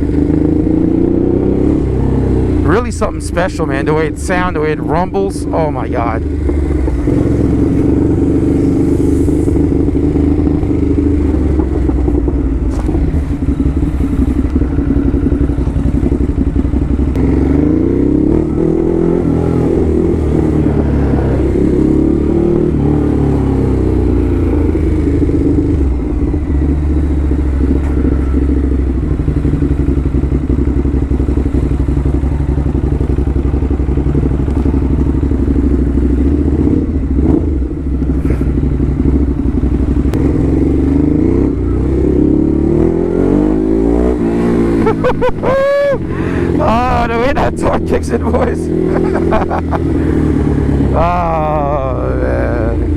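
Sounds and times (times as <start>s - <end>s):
motorcycle engine rumbling: 0.0s - 52.9s.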